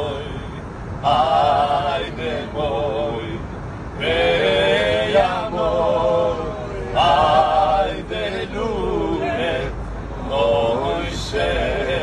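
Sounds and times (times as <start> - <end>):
two men singing folk song: 0.0 - 12.0.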